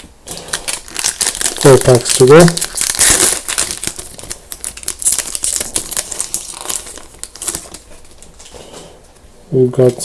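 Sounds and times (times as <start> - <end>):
wrapper crinkling and tearing: 0.2 - 8.8.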